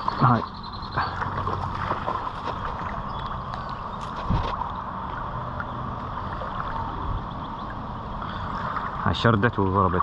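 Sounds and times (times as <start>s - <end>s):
water noise: 0.0s - 10.0s
wind: 0.0s - 10.0s.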